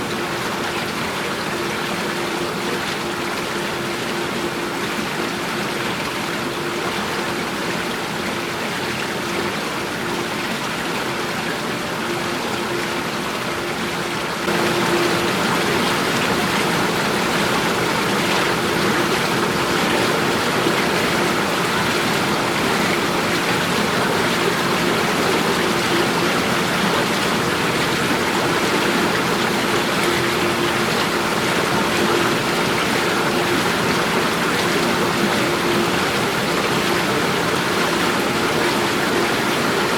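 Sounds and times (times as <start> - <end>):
faint steady hum: 0.0 - 39.9
running water rushing: 0.0 - 39.9.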